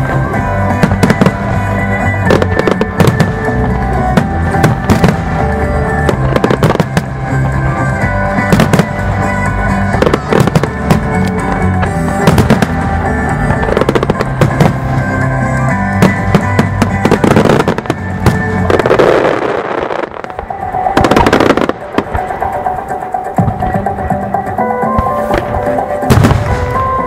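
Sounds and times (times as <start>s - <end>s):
fireworks bursting and crackling: 0.0s - 27.0s
loud music: 0.0s - 27.0s.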